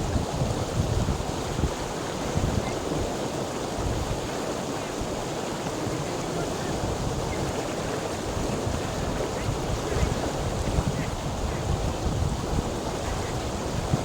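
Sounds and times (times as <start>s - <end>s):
water flowing: 0.0s - 14.0s.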